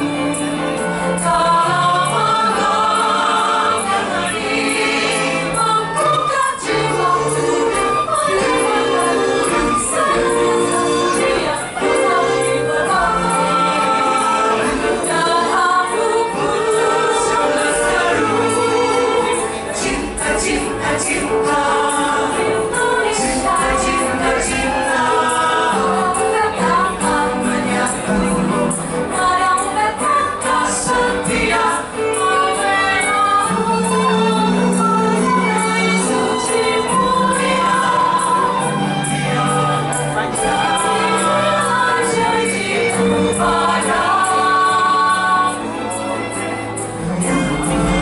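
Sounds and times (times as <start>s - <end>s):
mixed choir singing through pa: 0.0s - 48.0s.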